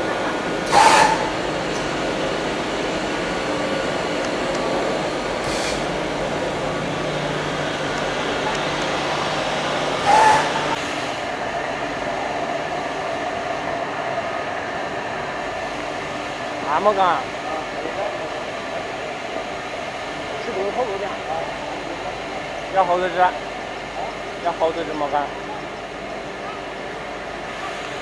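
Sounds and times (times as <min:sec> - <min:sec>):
machinery running with hum: 0:00.0 - 0:28.0.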